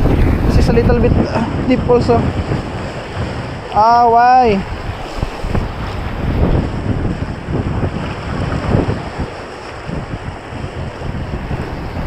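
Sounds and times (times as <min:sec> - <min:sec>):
sea waves breaking on shore: 0:00.0 - 0:12.0
strong wind buffeting microphone: 0:00.0 - 0:12.0.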